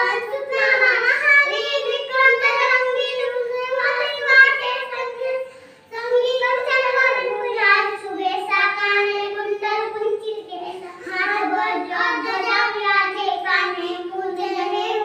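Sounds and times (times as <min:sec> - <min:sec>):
children singing a prayer: 0:00.0 - 0:15.0.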